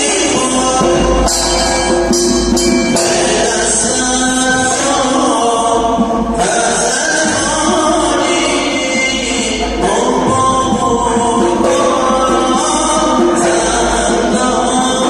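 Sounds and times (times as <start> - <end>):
percussion accompaniment: 0.0 - 15.0
person chanting in sung voice: 0.0 - 15.0
sharp percussion strikes: 0.0 - 15.0.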